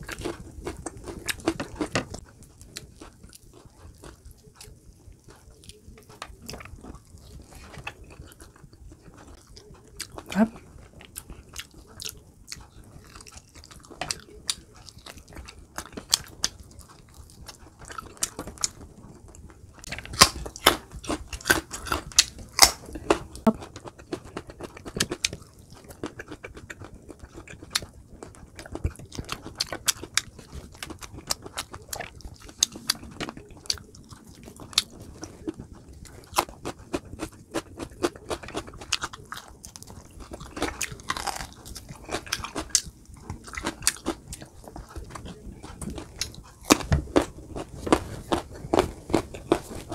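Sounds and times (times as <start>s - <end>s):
close chewing and biting: 0.0s - 49.9s.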